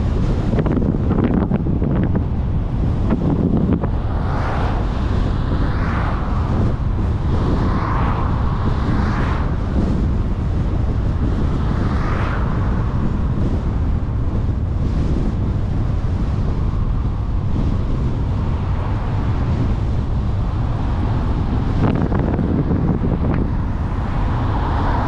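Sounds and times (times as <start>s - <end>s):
tyre and engine rumble: 0.0s - 25.0s
wind on microphone: 0.0s - 25.0s.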